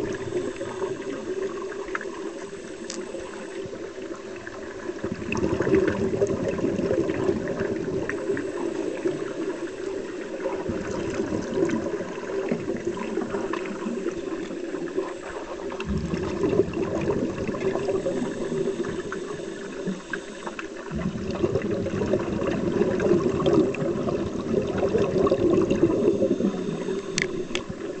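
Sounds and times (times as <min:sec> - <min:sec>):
regulator exhaust bubbling underwater: 0:00.0 - 0:28.0.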